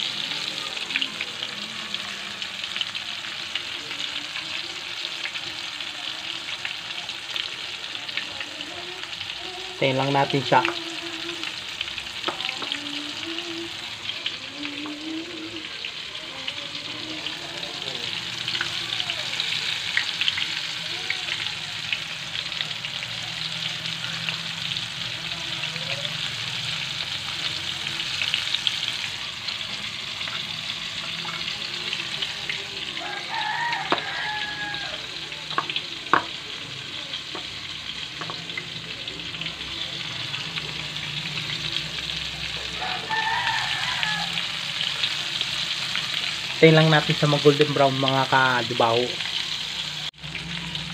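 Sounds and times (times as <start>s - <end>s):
chicken deep-frying in oil: 0.0s - 50.9s.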